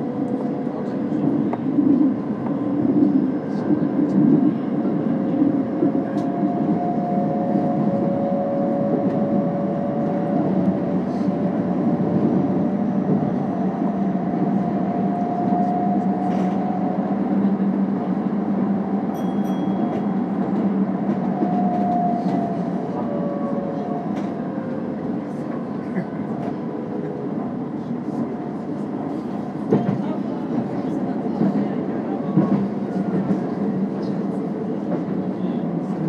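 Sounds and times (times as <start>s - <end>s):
train wheels rumbling on track: 0.0s - 36.0s.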